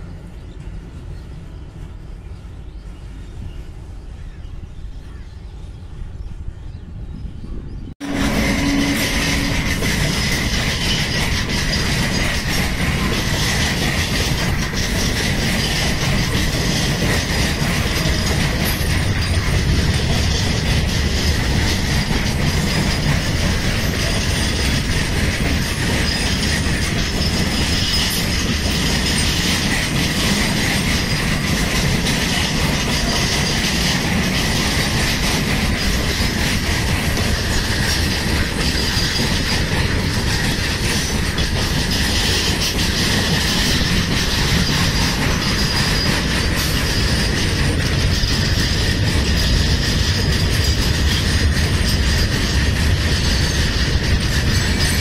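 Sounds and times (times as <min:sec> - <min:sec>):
freight train rumble and clatter: 0:00.0 - 0:55.0
high wheel squeal: 0:08.0 - 0:55.0.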